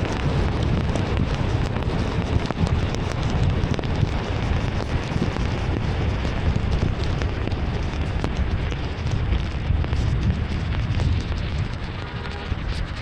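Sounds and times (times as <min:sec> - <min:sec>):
car driving on wet road: 0:00.0 - 0:13.0
heavy rain on a car: 0:00.0 - 0:13.0.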